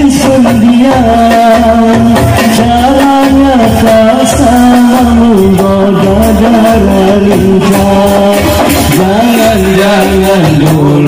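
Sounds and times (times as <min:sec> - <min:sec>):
deep bass drum: 0:00.0 - 0:11.0
frame drums beating: 0:00.0 - 0:11.0
man singing long notes: 0:00.0 - 0:11.0.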